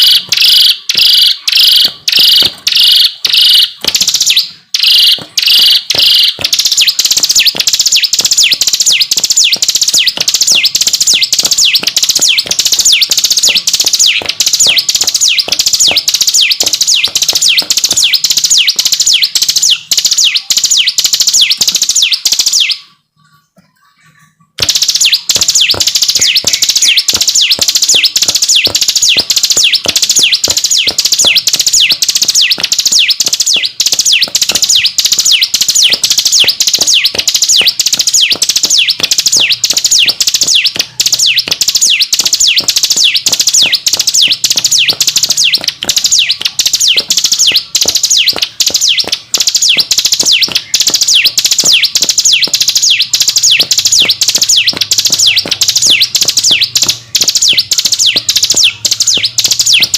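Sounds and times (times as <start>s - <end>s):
bird singing rapid high notes: 0.0s - 59.9s.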